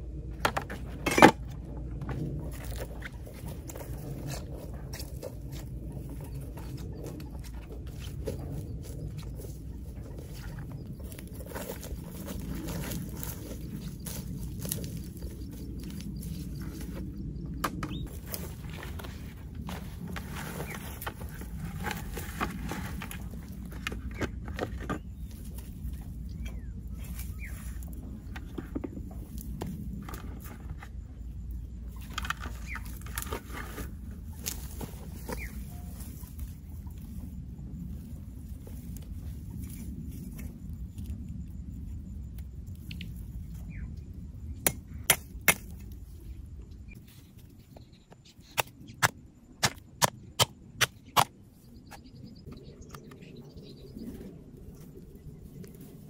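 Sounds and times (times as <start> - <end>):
steady low rumble: 0.0 - 48.1, 48.8 - 56.0.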